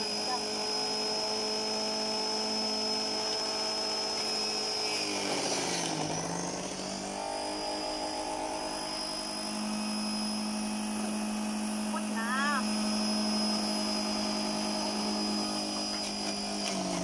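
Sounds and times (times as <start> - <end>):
electric juicer motor whining: 0.0 - 17.0.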